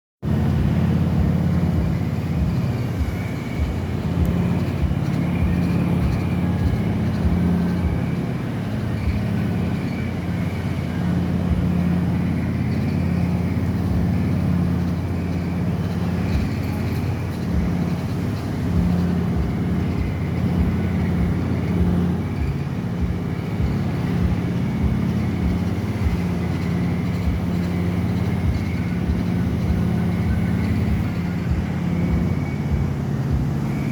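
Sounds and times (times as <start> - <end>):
machinery humming: 0.2 - 33.9.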